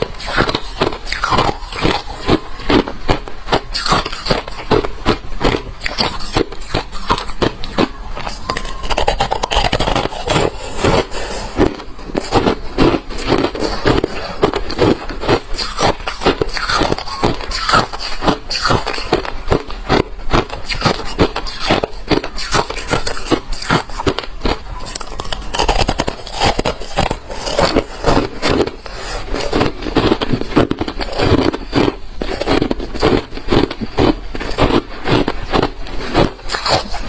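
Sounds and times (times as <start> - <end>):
chewing crunchy ice: 0.0 - 37.0.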